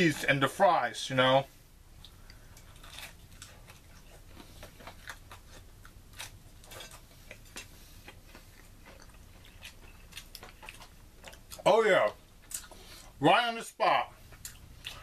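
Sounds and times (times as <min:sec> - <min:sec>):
person chewing crunchy pizza: 0:02.0 - 0:13.2, 0:14.2 - 0:15.0.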